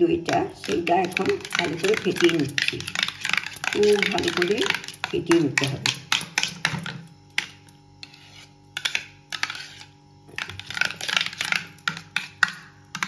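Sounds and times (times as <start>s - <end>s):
spoon clicking and scraping bowl: 0.3s - 13.0s.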